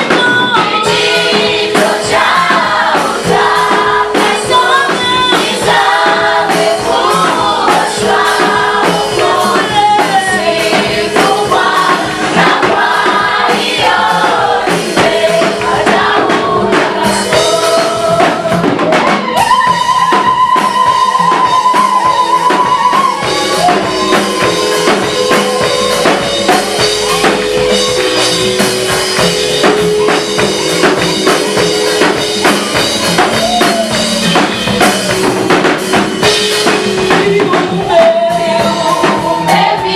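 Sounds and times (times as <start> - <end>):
choir singing gospel: 0.0 - 39.9
drums and percussion beat: 0.0 - 39.9.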